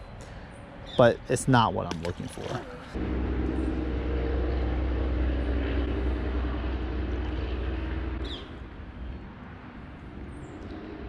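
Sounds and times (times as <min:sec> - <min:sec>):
low engine-like drone: 0:00.0 - 0:11.0.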